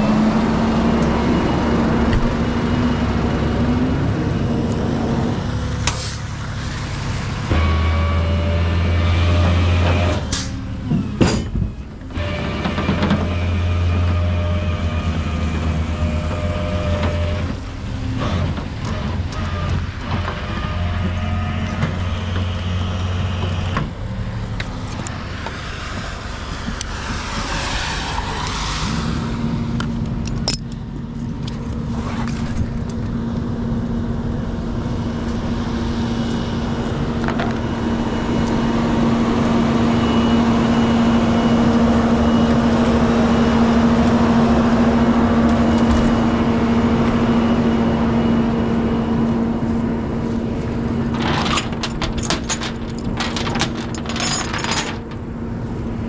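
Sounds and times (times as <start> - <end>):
hydraulic winch droning hum: 0.0 - 56.0.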